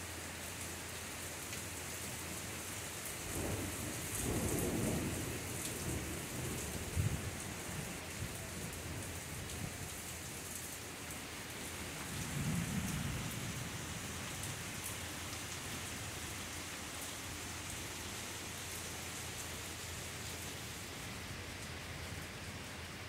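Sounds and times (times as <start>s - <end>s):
heavy rain pouring: 0.0s - 23.0s
raindrops ticking close by: 0.1s - 23.0s.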